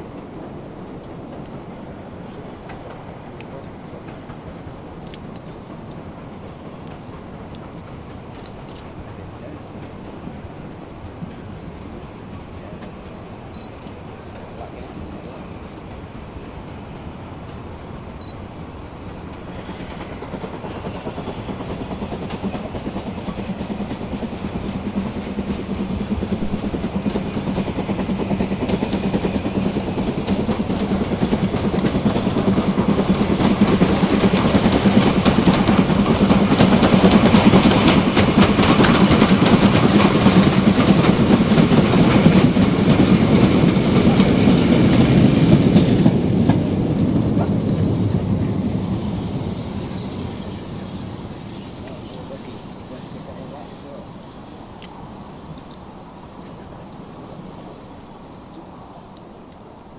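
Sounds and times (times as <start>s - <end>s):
steam train passing: 0.0s - 59.9s
wheels clattering on rails: 0.0s - 59.9s.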